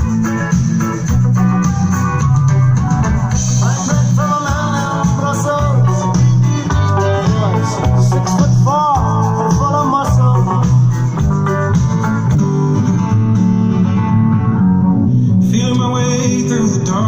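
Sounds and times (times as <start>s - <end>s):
pop song with guitar and bass: 0.0s - 17.0s.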